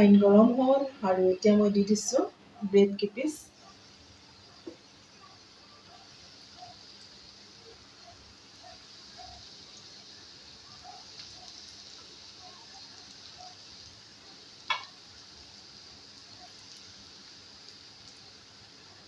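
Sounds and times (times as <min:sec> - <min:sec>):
bread frying in oil: 0:00.0 - 0:19.0.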